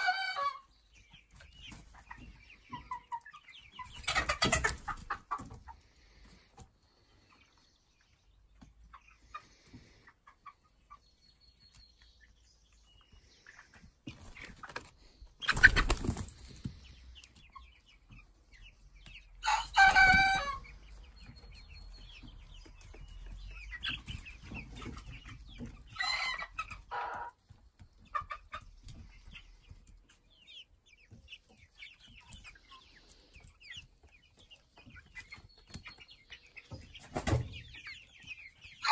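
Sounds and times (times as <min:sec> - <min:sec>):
chickens clucking and chirping: 0:00.0 - 0:38.9.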